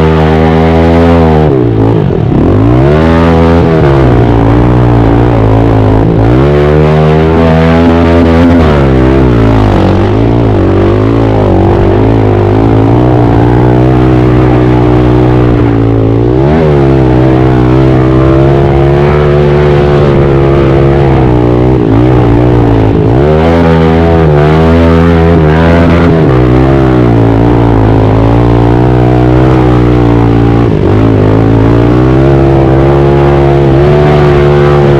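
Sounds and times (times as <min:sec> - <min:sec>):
pit bike engine revving: 0:00.0 - 0:34.9.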